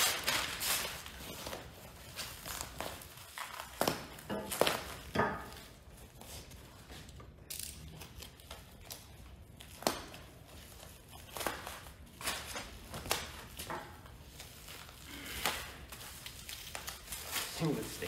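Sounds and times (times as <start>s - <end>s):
plastic wrap crinkling and tearing: 0.0s - 18.0s.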